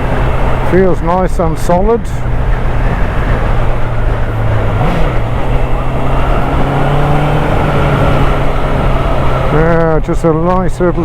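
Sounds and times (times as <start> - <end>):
motorcycle engine running: 0.0 - 10.8
wind and road noise: 0.0 - 11.0.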